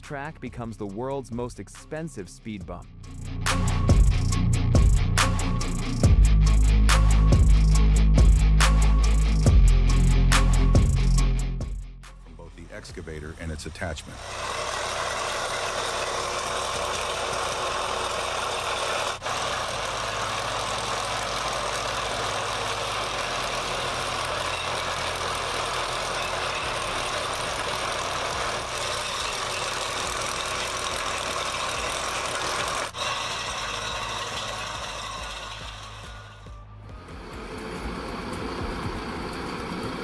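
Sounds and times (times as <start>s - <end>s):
heavy diesel machinery running: 2.9s - 40.0s.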